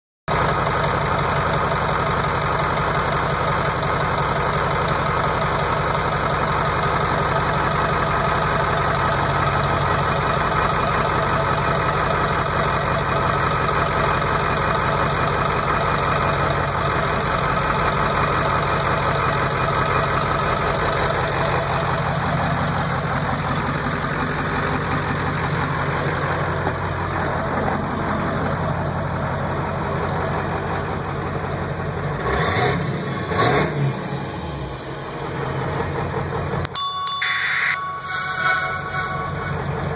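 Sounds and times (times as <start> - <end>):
truck engine idling: 0.3 - 32.4, 33.0 - 39.9.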